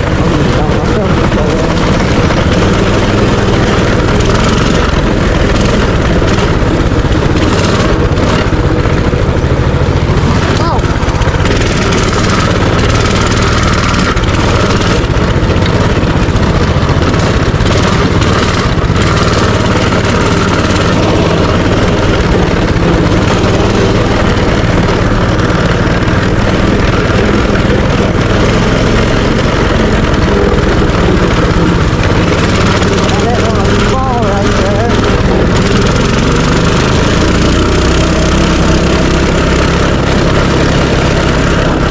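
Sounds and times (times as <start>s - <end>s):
rushing noise: 0.0s - 41.9s
small engine humming: 0.0s - 41.9s.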